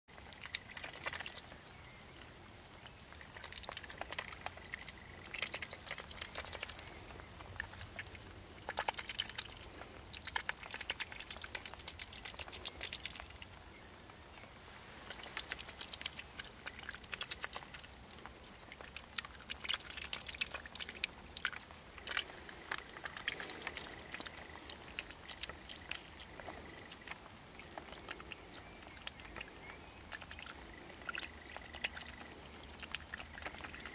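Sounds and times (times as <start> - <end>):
duck dabbling in water: 0.1 - 13.8, 14.5 - 33.9.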